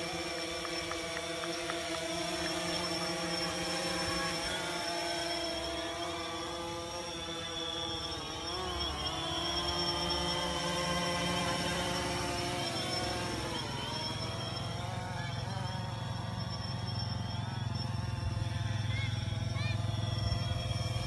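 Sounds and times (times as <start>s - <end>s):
drone propellers buzzing: 0.0s - 21.0s
steady high-pitched tone: 0.0s - 21.0s.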